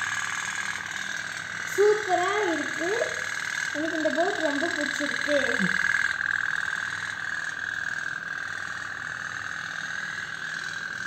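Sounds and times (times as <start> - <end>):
toy steam boat putt-putt buzz: 0.0 - 11.0.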